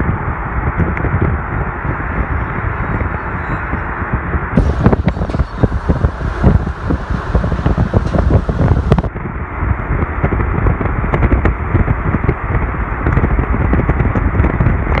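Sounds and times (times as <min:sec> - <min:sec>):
vehicle road noise: 0:00.0 - 0:15.0
wind buffeting microphone: 0:00.0 - 0:15.0.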